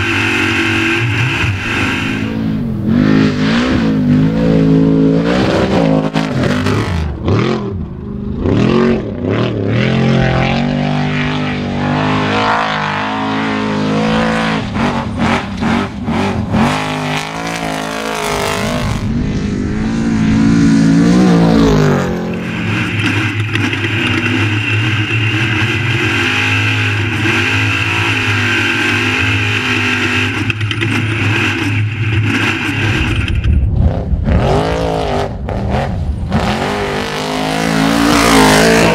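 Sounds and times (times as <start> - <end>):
high engine whine: 0.0 - 38.9
race vehicle engine revving: 0.0 - 38.9.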